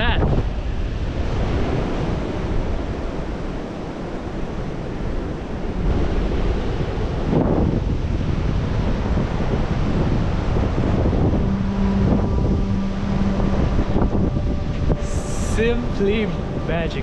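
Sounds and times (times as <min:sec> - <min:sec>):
steady low hum: 0:00.0 - 0:17.0
surf washing on beach: 0:00.0 - 0:17.0
wind buffeting microphone: 0:00.0 - 0:17.0.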